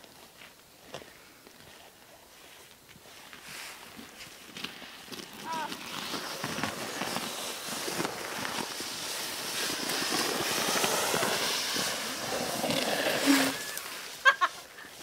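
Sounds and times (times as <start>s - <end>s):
clothing sliding over ice: 1.7s - 15.0s.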